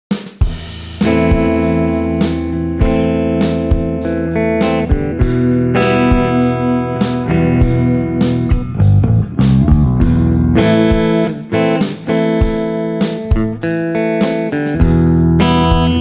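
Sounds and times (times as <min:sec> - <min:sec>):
clean electric guitar: 0:00.7 - 0:16.0.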